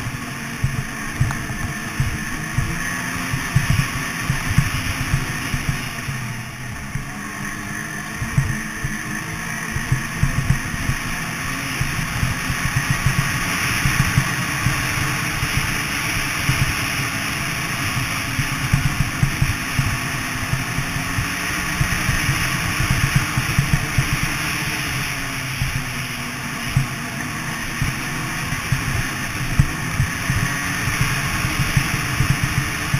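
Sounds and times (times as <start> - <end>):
snowmobile engine running: 0.0 - 32.9.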